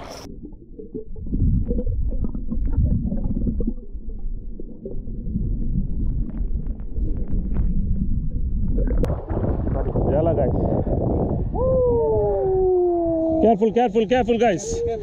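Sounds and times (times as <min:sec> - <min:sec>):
muffled low rumble: 0:00.0 - 0:14.2.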